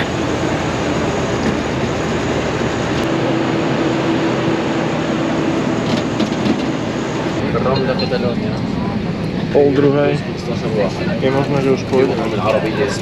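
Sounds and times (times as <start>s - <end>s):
jet engine drone: 0.0s - 13.0s
steady hum: 0.0s - 13.0s.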